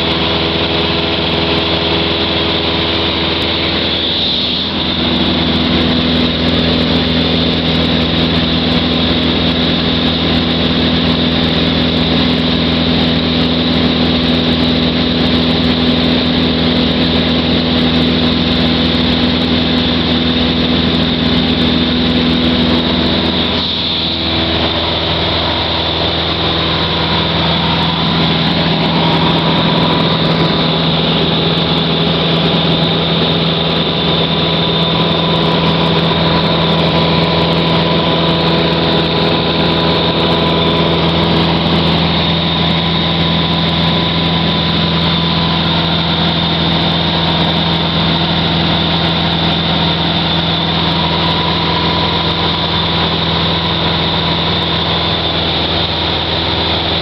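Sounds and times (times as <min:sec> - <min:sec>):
airplane engine drone in cabin: 0:00.0 - 0:57.0.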